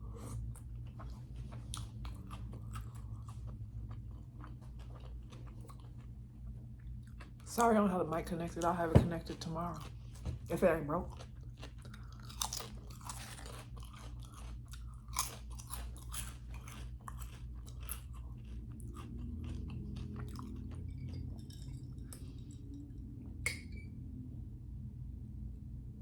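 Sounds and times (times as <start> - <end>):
person chewing crunchy food: 0.0 - 7.7, 8.6 - 23.1.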